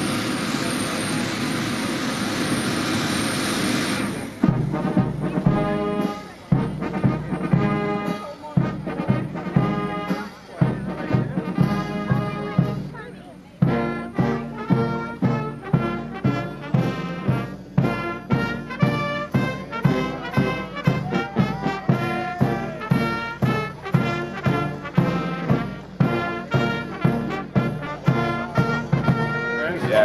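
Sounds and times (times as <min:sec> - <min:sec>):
brass band playing: 0:02.9 - 0:30.0.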